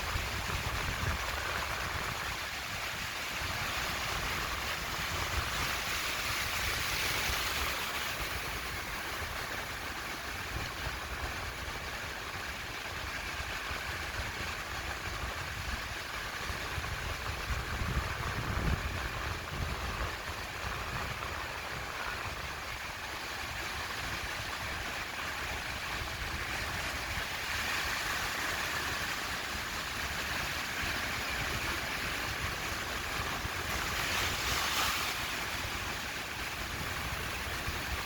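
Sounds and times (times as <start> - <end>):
surf washing onto beach: 0.0 - 38.0.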